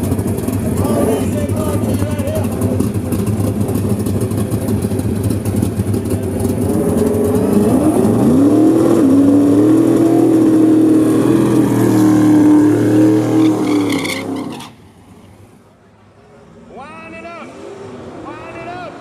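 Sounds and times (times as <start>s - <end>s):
car engine idling and revving: 0.0s - 15.6s.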